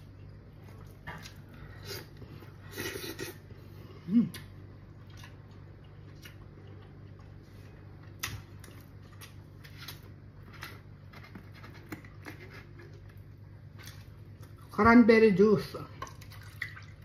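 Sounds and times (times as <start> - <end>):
soft chewing: 0.0 - 14.8
low steady hum: 0.0 - 17.0.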